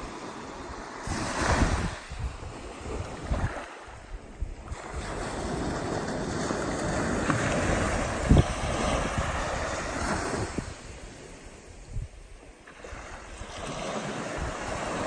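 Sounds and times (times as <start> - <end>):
surf washing onto sandy beach: 0.0 - 15.0
wind buffeting microphone: 0.0 - 15.0.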